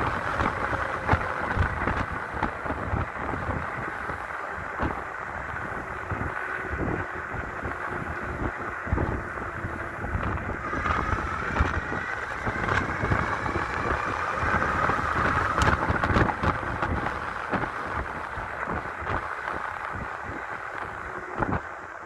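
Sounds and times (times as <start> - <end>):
electric motor whining: 0.0 - 22.0
road rumble: 0.0 - 22.0
wind buffeting microphone: 0.0 - 22.0.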